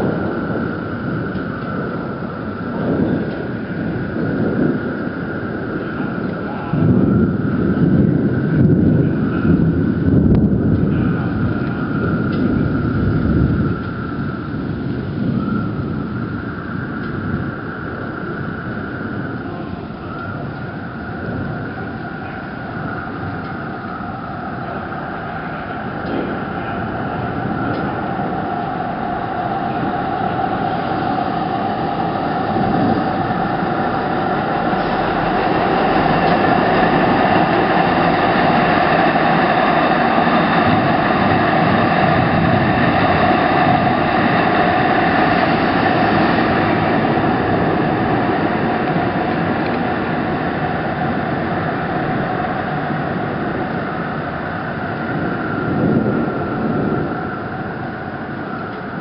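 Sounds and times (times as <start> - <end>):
passenger train rumbling past: 0.0 - 59.0.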